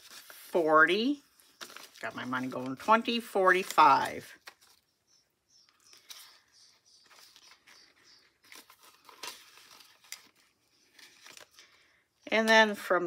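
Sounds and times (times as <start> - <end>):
paper banknotes rustling: 0.0 - 5.0, 5.7 - 12.5.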